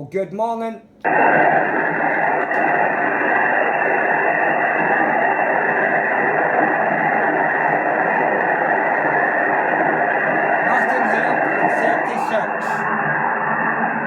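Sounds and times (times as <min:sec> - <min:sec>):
radio static hiss: 0:01.0 - 0:14.0.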